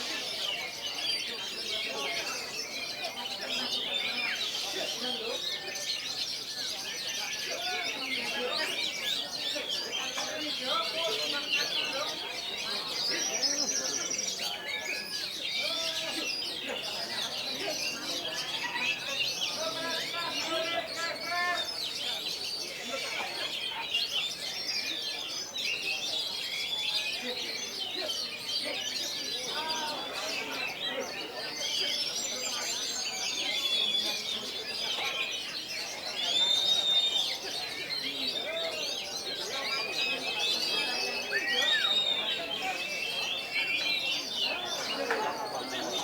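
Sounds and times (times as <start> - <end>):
birds whistling and trilling: 0.0 - 46.0
songbirds singing together: 0.0 - 46.0.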